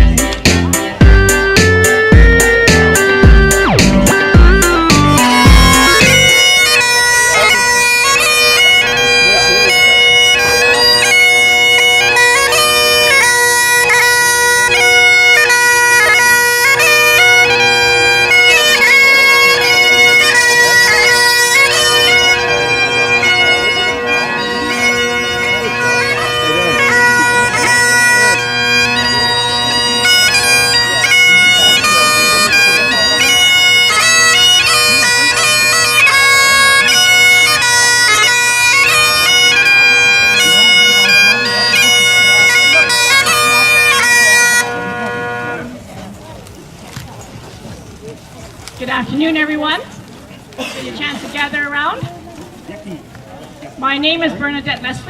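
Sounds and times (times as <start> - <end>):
bagpipes playing a tune: 0.0 - 46.0.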